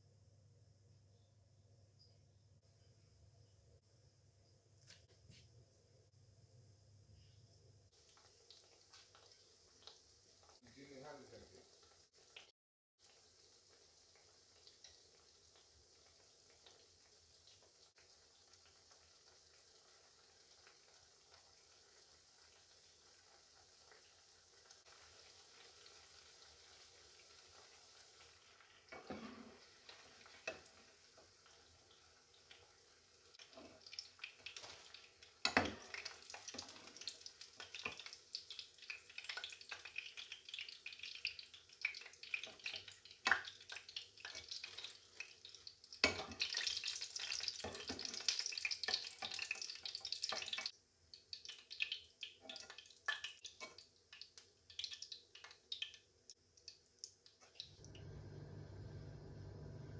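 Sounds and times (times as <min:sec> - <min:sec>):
snacks sizzling in hot oil: 0:07.9 - 0:59.9.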